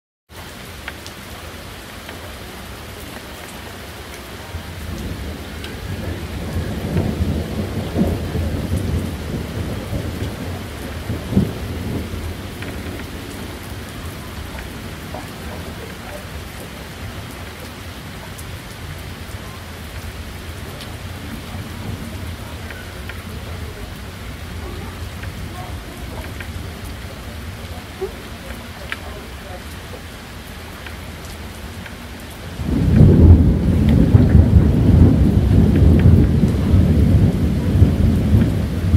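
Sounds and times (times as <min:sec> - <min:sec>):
steady rain: 0:00.3 - 0:38.9
rolling thunder rumble: 0:04.4 - 0:30.8, 0:31.6 - 0:38.9.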